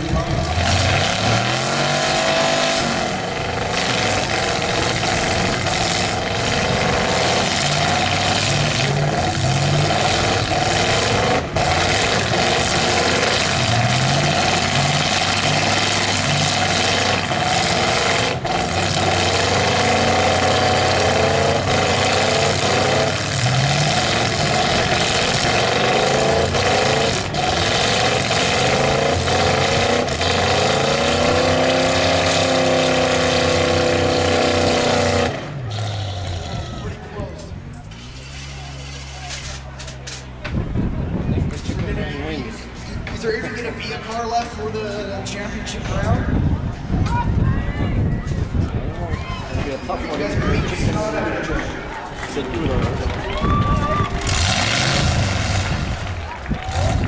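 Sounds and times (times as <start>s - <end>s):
car engines revving hard: 0.0s - 47.1s, 49.6s - 57.0s.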